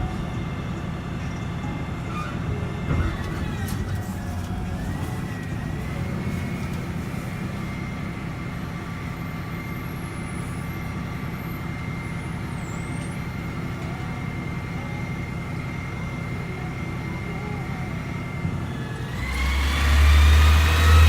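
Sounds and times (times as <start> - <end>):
garbage truck engine running: 0.0 - 21.0.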